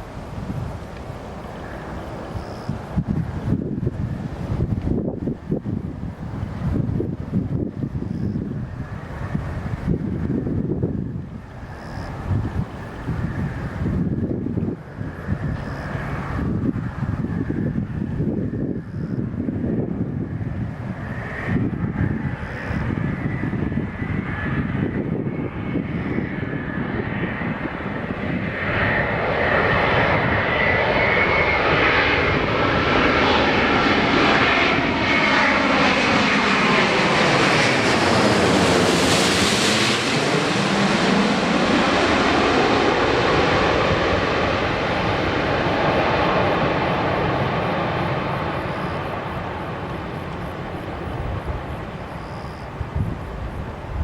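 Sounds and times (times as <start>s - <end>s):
jet airliner passing by: 0.0s - 54.0s.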